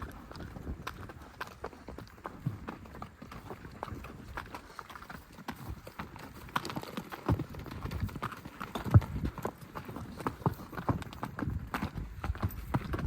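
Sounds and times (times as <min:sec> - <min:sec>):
clip-clopping hoofbeats: 0:00.0 - 0:13.0.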